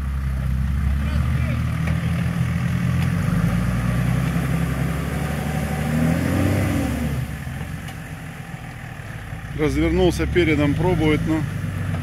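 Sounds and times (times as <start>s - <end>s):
off-road vehicle engine straining: 0.0s - 12.0s.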